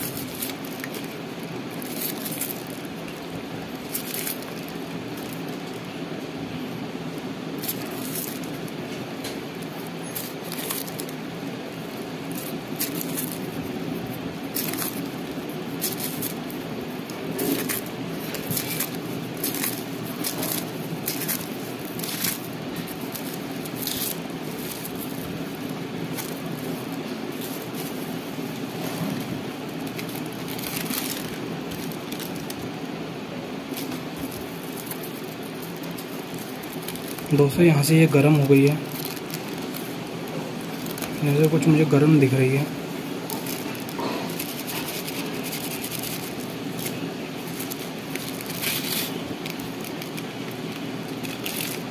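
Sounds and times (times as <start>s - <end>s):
foil and plastic film crinkling: 0.0s - 6.1s, 7.2s - 51.9s
steady low hum: 0.0s - 51.9s.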